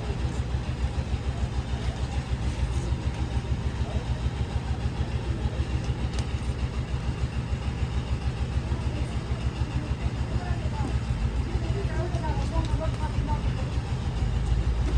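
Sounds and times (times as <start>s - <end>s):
engine idling: 0.0s - 14.9s.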